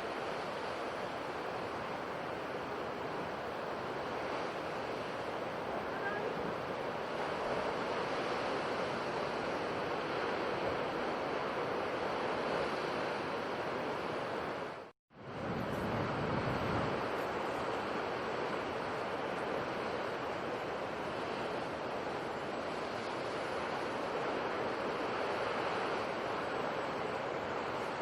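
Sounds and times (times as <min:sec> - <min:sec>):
sea surf washing: 0:00.0 - 0:28.0.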